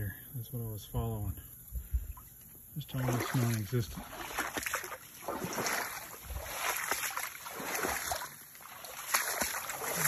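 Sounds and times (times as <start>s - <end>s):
footsteps wading through water: 1.9s - 10.0s.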